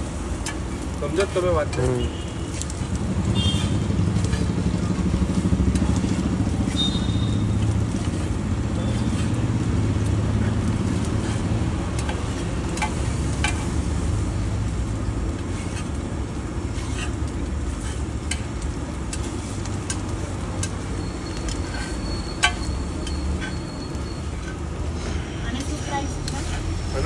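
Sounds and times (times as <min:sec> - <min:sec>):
metal spatula scraping on griddle: 0:00.3 - 0:13.9, 0:15.0 - 0:27.0.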